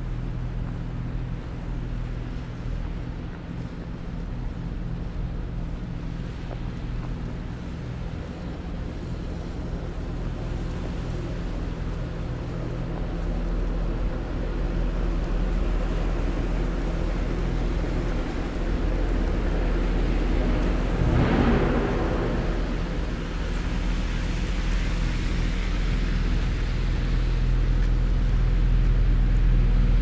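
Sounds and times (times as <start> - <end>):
low mechanical hum of city street: 0.0 - 30.0.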